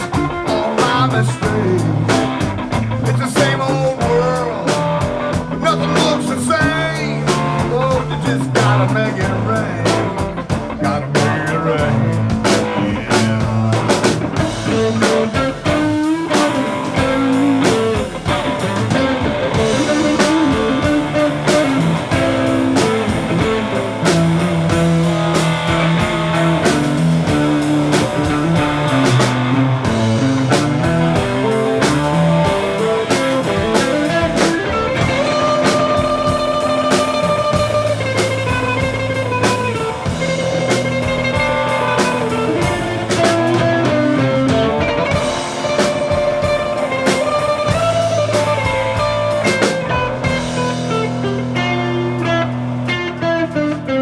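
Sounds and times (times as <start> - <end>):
drum kit: 0.0 - 54.0
lead guitar solo: 0.0 - 54.0.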